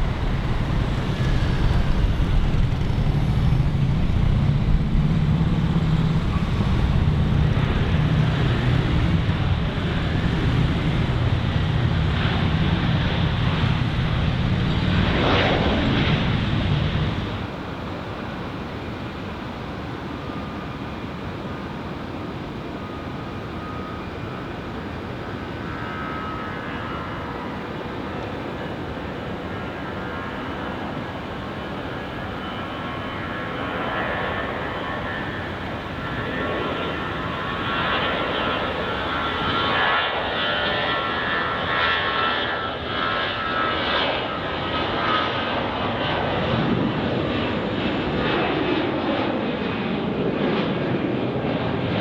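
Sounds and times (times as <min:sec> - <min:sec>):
airliner engines whining: 0:00.0 - 0:52.0.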